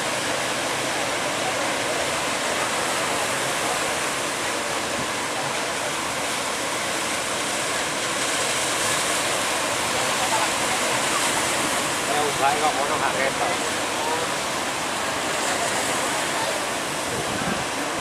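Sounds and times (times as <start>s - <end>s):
large waves breaking: 0.0s - 18.0s.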